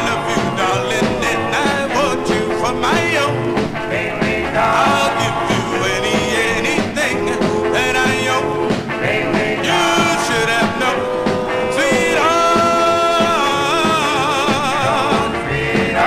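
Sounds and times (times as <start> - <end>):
rock and roll backing band: 0.0 - 16.0
vocal group singing in harmony: 0.0 - 16.0.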